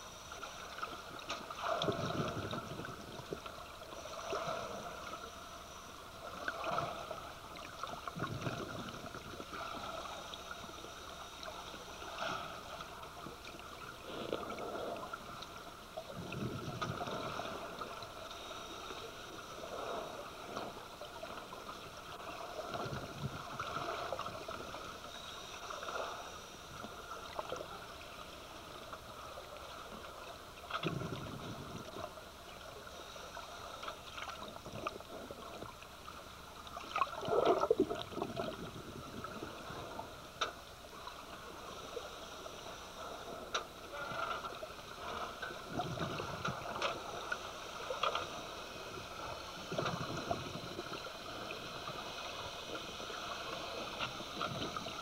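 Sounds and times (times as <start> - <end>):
exhaled bubbles gurgling underwater: 0.0 - 55.0
steady watery hiss: 0.0 - 55.0.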